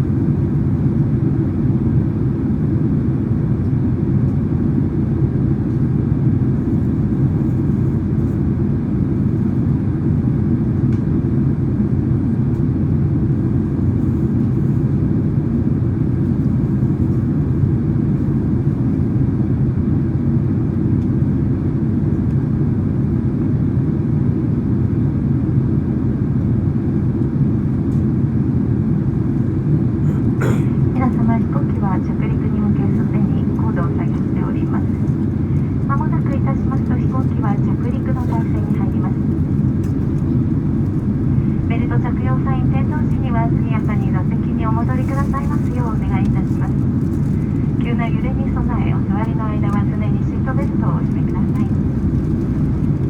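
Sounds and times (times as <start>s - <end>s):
aircraft cabin engine rumble: 0.0s - 53.0s.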